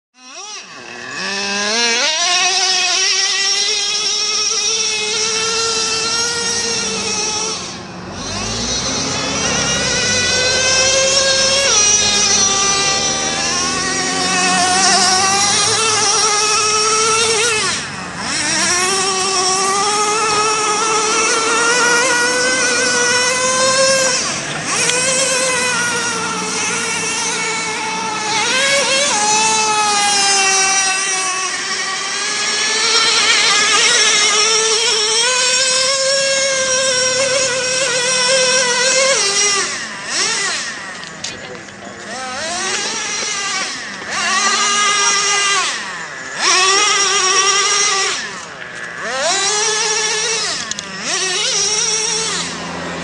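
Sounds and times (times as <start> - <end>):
small nitro engine revving: 0.2 - 53.0.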